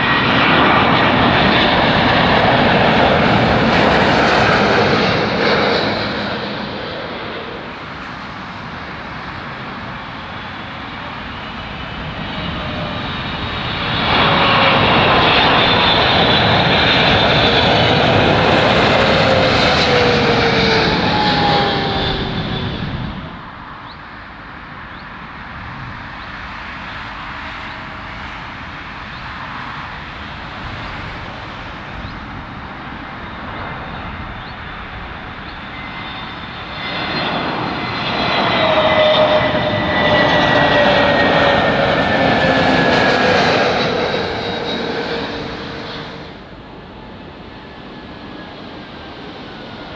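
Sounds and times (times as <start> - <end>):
distant jet rumble: 0.0 - 49.9
jet engines passing low overhead: 0.0 - 49.9.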